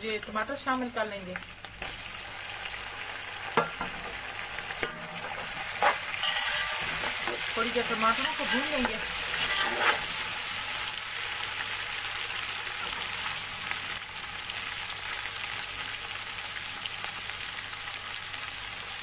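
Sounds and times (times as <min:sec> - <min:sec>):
tomatoes sizzling in oil: 0:00.0 - 0:19.0.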